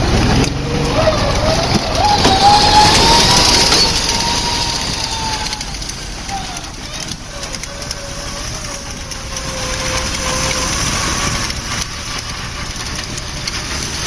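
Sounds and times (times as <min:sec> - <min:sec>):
car engine running: 0:00.0 - 0:14.0
thin steady whine: 0:01.0 - 0:14.0.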